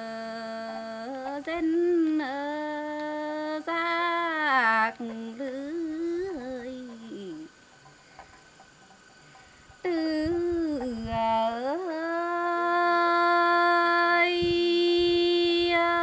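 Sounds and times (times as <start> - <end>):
woman singing unaccompanied: 0.0 - 7.6, 9.8 - 16.0.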